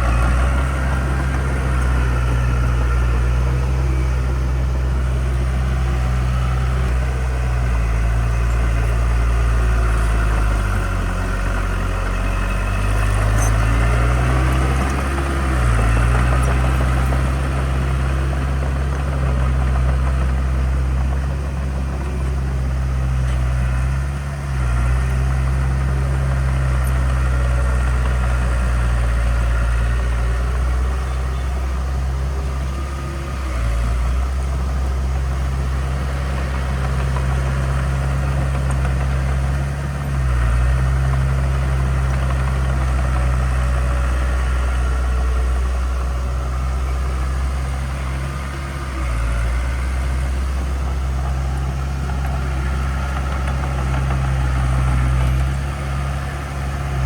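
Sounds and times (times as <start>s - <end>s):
heavy machine diesel engine hum: 0.0s - 57.0s.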